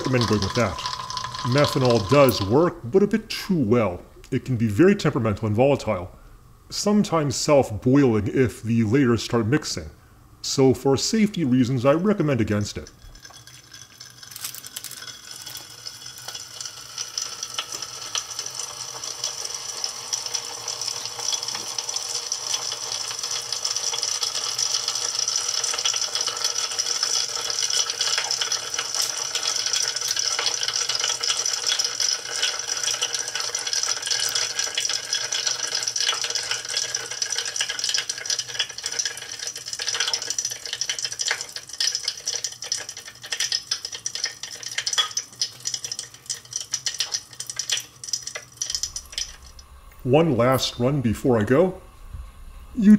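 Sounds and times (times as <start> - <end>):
chemical reaction crackling and fizzing: 0.0 - 3.2, 9.7 - 52.0.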